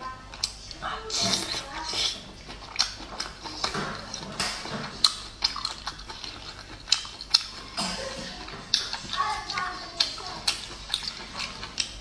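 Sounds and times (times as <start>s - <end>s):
wet chewing mouth smacks: 0.4s - 7.8s, 8.4s - 12.0s.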